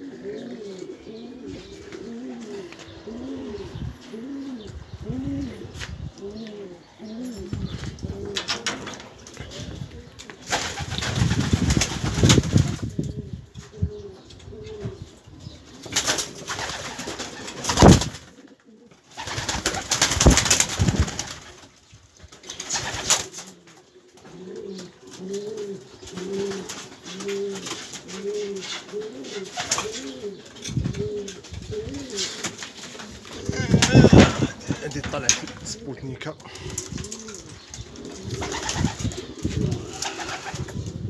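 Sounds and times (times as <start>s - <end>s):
pigeons cooing: 0.0s - 21.6s, 22.4s - 41.0s.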